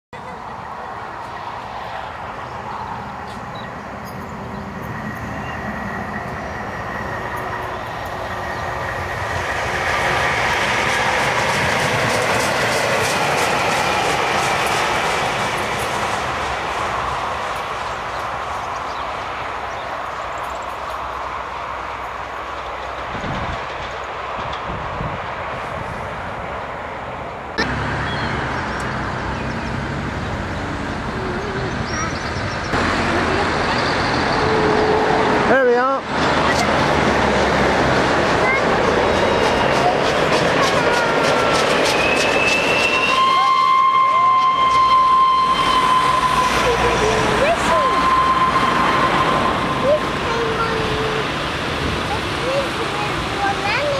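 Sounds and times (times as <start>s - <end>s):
distant road traffic rumble: 0.2s - 53.9s
steam locomotive running: 0.2s - 53.9s.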